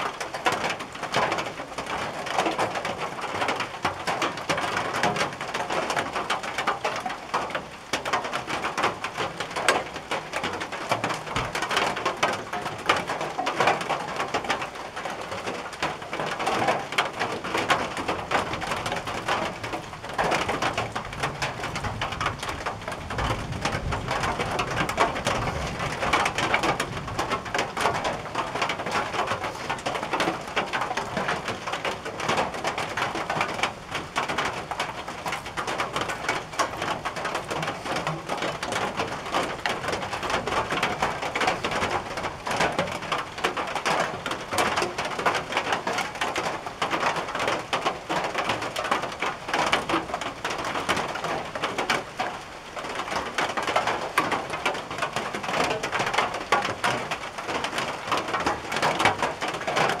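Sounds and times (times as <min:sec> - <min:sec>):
rain on a tin roof: 0:00.0 - 1:00.0.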